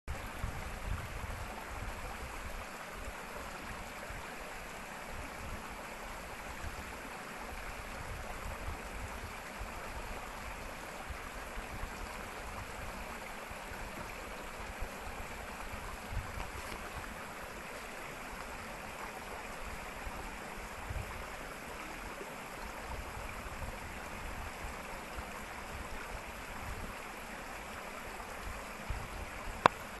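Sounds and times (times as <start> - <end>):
creek water rushing over rocks: 0.1 - 30.0.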